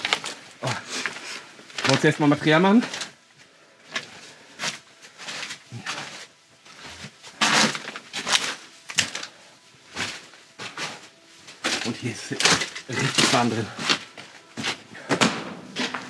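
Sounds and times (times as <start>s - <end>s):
footsteps crunching on rubble: 0.0s - 16.0s.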